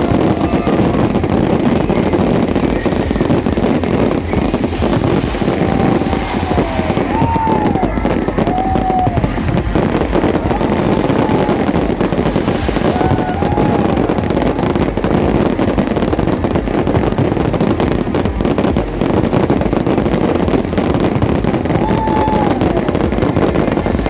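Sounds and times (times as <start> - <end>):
firework whistling: 0.0 - 24.0
fireworks crackling and popping: 0.0 - 24.0.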